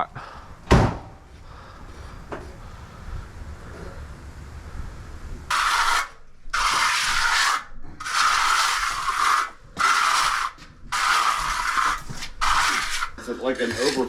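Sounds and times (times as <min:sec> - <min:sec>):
long scraping strokes: 0:01.4 - 0:14.0.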